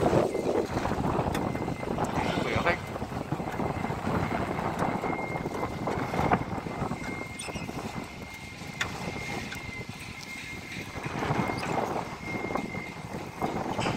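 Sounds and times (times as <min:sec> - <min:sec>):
concrete saw engine drone: 0:00.0 - 0:13.9
saw blade whine: 0:00.0 - 0:13.9.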